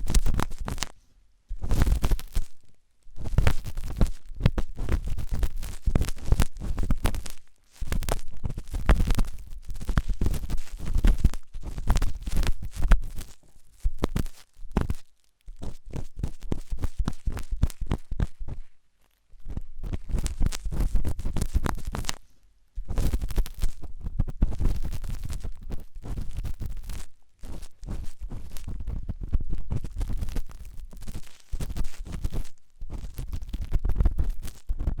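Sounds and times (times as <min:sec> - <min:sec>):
tool scratching in microphone ear: 0:00.0 - 0:01.0, 0:01.6 - 0:02.6, 0:03.2 - 0:18.7, 0:19.4 - 0:35.0.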